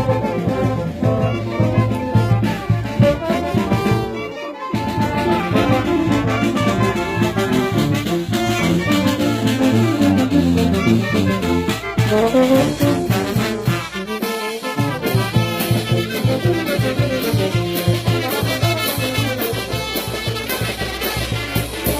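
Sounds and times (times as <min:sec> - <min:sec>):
brass band playing: 0:00.0 - 0:21.9.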